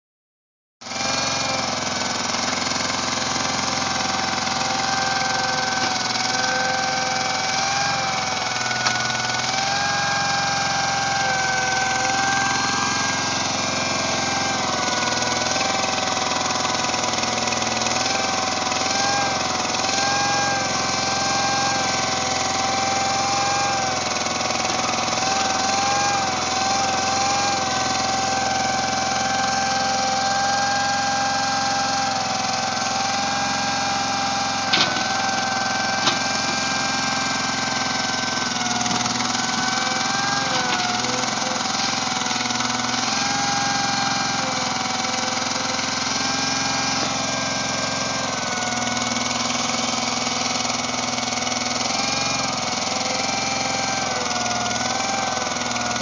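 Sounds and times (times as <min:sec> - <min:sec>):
garden tractor engine running: 0:00.8 - 0:56.0.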